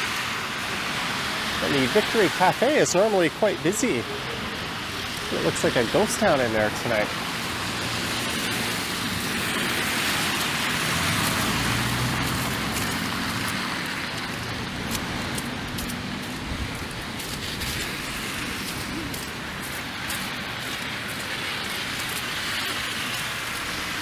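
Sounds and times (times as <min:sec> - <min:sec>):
car tyres hissing through slush: 0:00.0 - 0:24.0
steady rain: 0:00.0 - 0:24.0.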